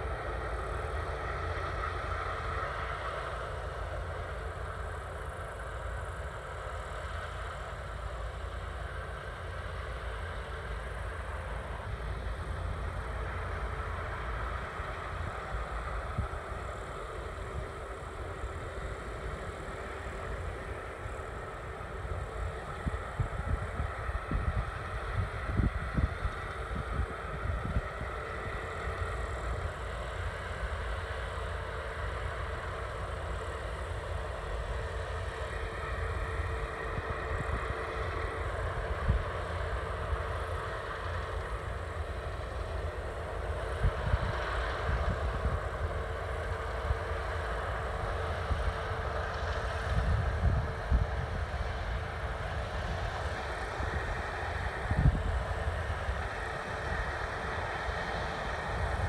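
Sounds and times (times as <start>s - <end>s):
harvest machinery humming: 0.0s - 59.0s.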